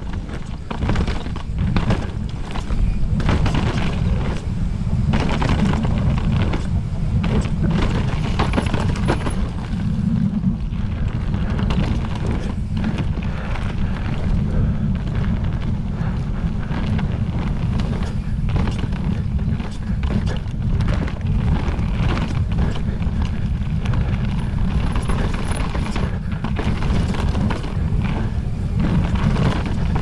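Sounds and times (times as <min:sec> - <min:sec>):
bike knocking and rattling: 0:00.0 - 0:30.0
wind buffeting microphone: 0:00.0 - 0:30.0.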